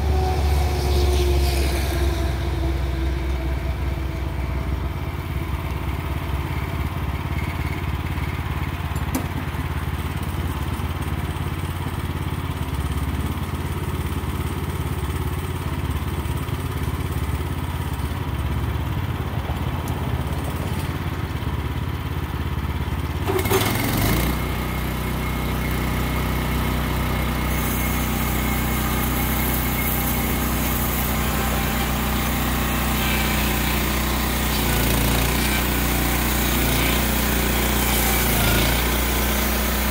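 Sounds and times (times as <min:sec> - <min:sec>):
sawmill engine idling and revving: 0:00.0 - 0:39.9.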